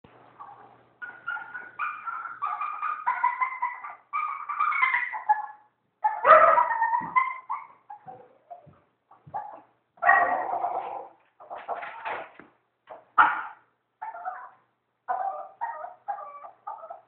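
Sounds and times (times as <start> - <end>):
puppy chattering cries: 0.4 - 11.8, 13.2 - 17.0.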